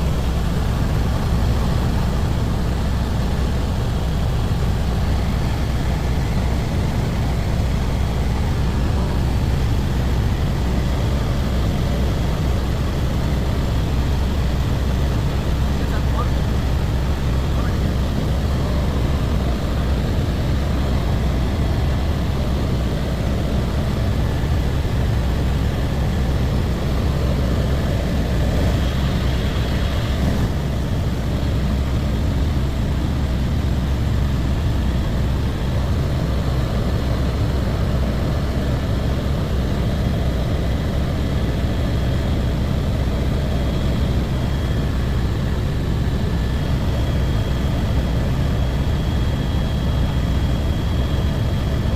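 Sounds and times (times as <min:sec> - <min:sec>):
helicopter engine and rotors: 0:00.0 - 0:51.9.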